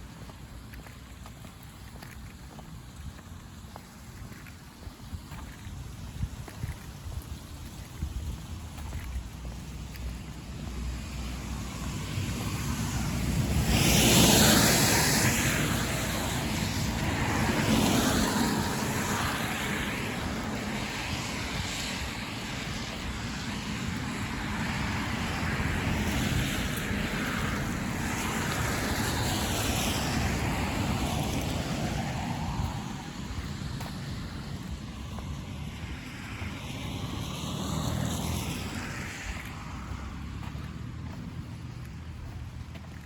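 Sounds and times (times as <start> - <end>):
car tyres hissing on wet road: 0.0 - 43.0
wet street noise: 0.0 - 43.0.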